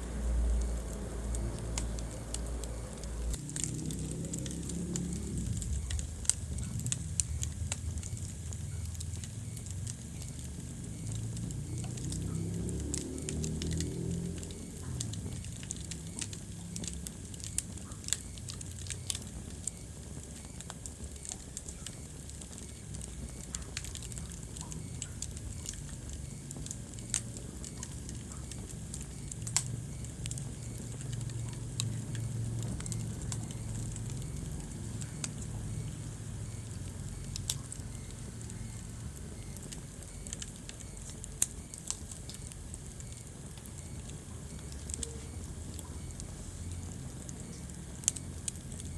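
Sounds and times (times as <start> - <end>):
fire low rumble: 0.0 - 48.9
wood fire crackling and popping: 0.0 - 48.9.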